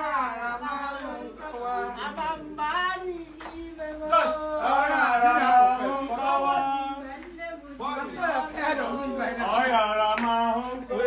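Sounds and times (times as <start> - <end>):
group singing worship song: 0.0 - 11.0.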